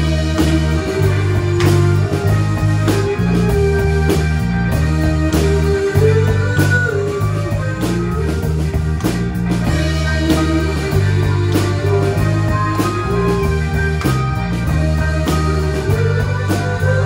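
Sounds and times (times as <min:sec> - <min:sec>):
bass guitar: 0:00.0 - 0:17.0.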